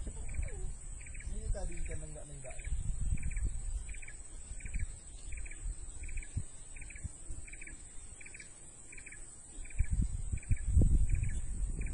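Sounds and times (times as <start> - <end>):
low wind rumble: 0.0 - 11.9.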